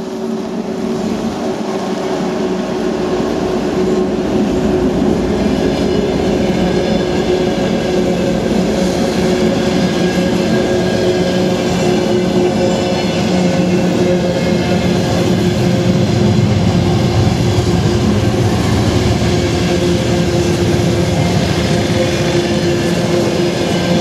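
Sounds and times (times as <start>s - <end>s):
diesel locomotive engines: 0.0s - 24.0s
train wheels rumbling on rails: 0.0s - 24.0s.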